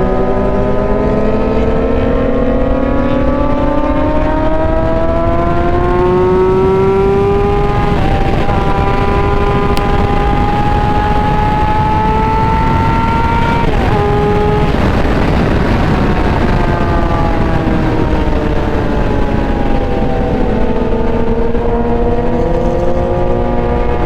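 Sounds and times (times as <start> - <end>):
motorcycle engine revving: 0.0 - 24.0
wind noise: 0.0 - 24.0.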